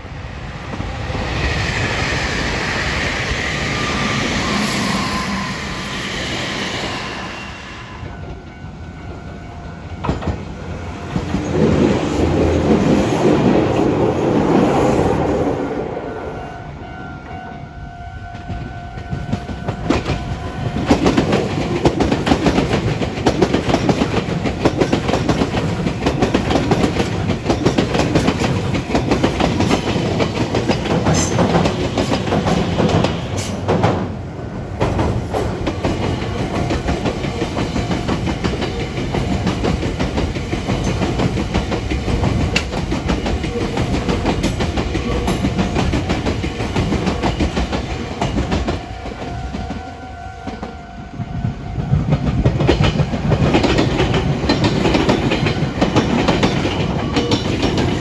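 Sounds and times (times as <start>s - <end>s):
electric train passing: 0.0s - 58.0s.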